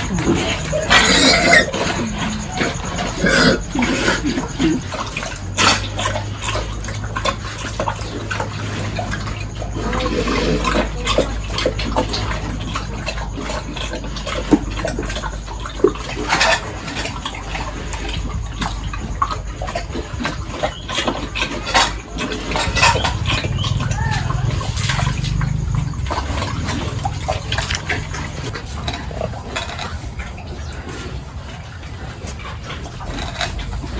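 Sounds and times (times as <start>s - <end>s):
pigs splashing and slurping water: 0.0s - 33.9s
steady low hum: 0.0s - 33.9s.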